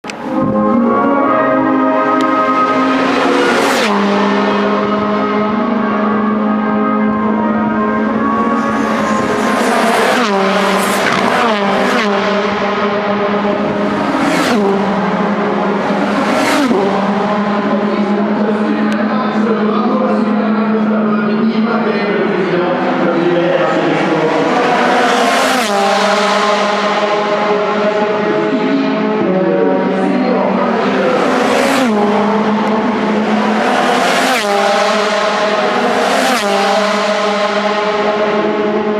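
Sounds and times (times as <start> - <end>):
race cars passing at high speed: 0.0 - 38.9
steady drone: 0.0 - 38.9.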